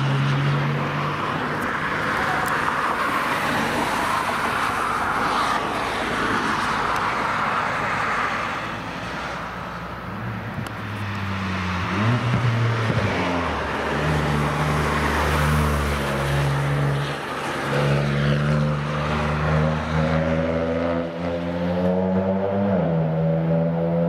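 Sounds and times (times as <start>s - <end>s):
cars accelerating past: 0.0s - 24.0s.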